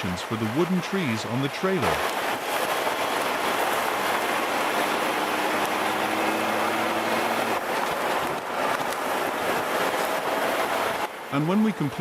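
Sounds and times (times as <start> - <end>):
low engine hum: 0.0 - 12.0
wind and road noise: 0.0 - 12.0.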